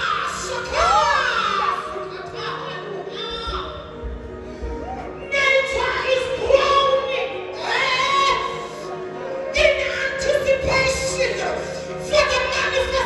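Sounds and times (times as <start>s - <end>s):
sustained musical accompaniment: 0.0s - 13.0s.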